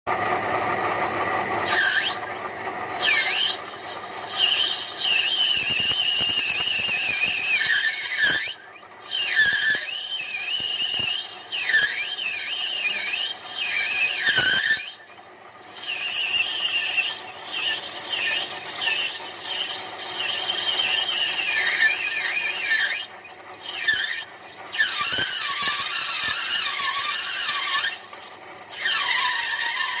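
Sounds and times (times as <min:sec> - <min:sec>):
lathe tool squealing on metal: 0:01.4 - 0:30.0.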